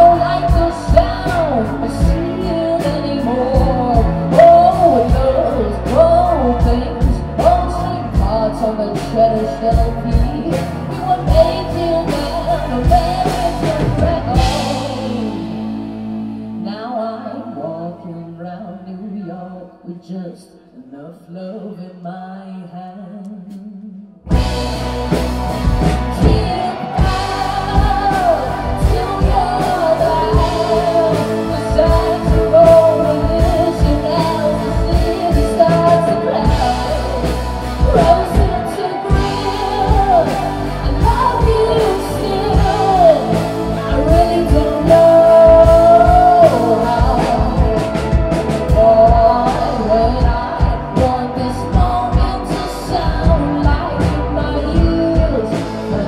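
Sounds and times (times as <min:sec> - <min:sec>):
bending lead guitar melody: 0:00.0 - 0:17.2, 0:24.3 - 0:56.0
live rock band playing: 0:00.0 - 0:17.2, 0:24.2 - 0:56.0.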